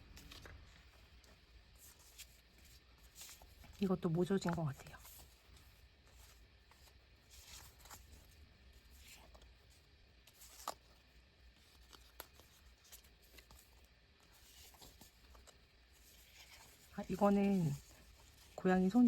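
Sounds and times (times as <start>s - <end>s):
paper sticker sheets rustling: 0.0s - 19.0s.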